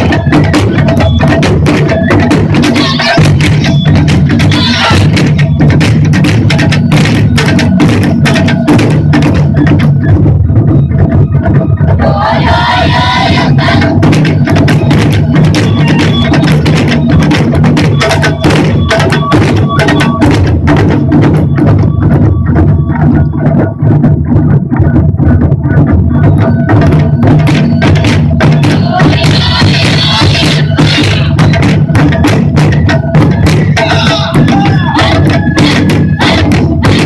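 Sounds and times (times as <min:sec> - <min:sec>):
taiko drum ensemble playing: 0:00.0 - 0:37.0.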